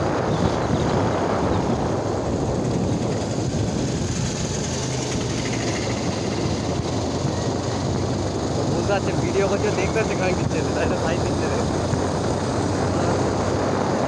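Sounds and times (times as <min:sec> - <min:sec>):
motorcycle engine running: 0:00.0 - 0:14.0
wind rush on microphone: 0:00.0 - 0:14.0.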